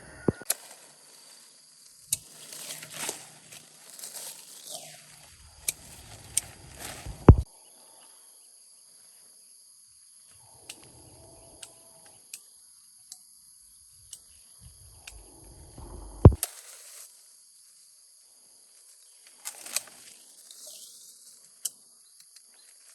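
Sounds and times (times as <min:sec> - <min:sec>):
insects trilling: 0:00.0 - 0:22.9.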